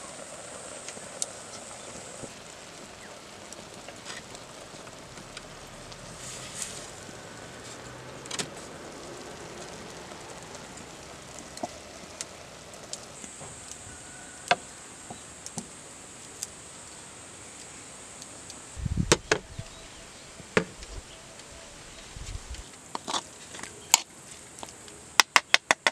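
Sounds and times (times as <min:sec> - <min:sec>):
high insect buzz: 0:00.0 - 0:22.7
cooking pot hissing and crackling: 0:00.0 - 0:25.9.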